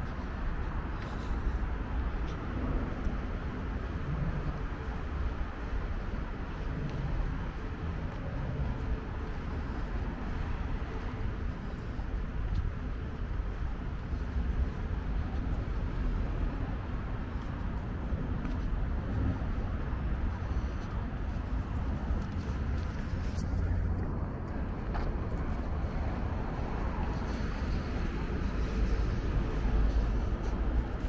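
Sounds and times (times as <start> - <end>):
city traffic hum: 0.0 - 31.0.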